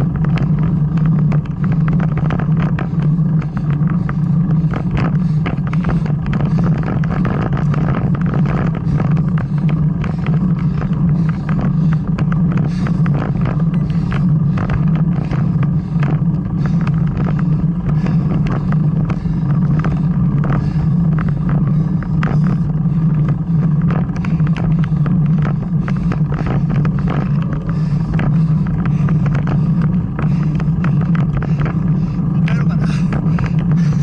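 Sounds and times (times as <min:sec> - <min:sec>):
small clicks and rattles: 0:00.0 - 0:34.0
wind and road noise hum: 0:00.0 - 0:34.0.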